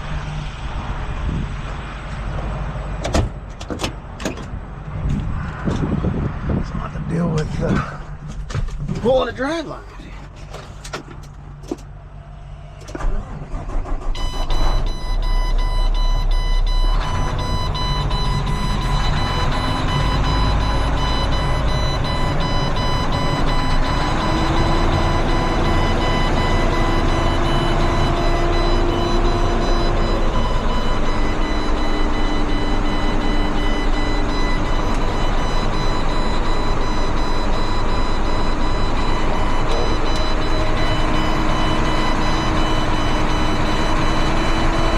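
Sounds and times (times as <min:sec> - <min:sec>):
heavy truck engine starting and running: 0:00.0 - 0:44.9.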